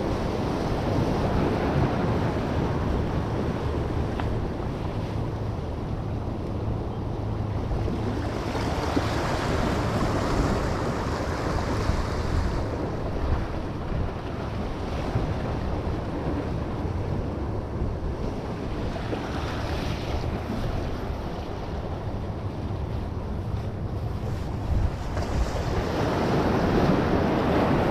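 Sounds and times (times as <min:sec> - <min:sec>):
ocean waves washing against boulders: 0:00.0 - 0:27.9
wind buffeting microphone: 0:00.0 - 0:27.9.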